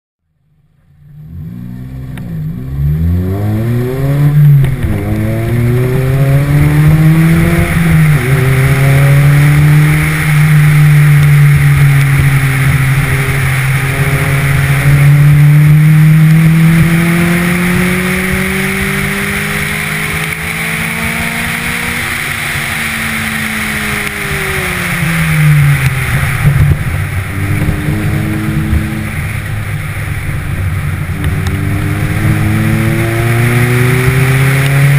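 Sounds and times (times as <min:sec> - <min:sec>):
car engine accelerating: 0:00.2 - 0:34.9
wind and road noise: 0:00.2 - 0:34.9.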